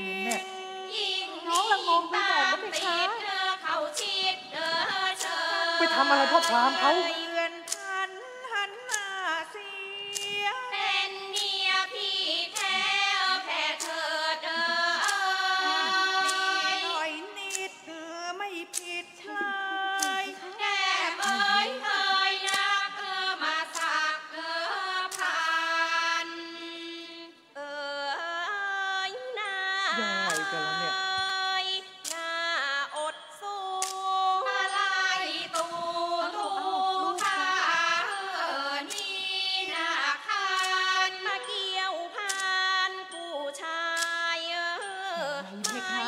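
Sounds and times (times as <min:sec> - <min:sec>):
woman singing slow melody: 0:00.0 - 0:46.0.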